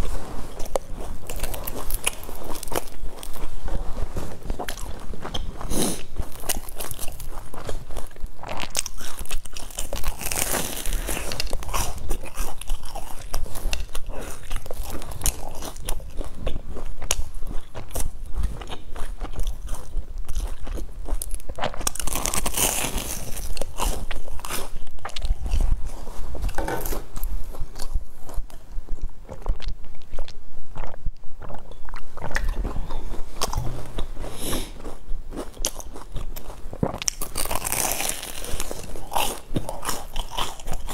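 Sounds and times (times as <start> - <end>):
crisp crunching and chewing: 0.0 - 40.9.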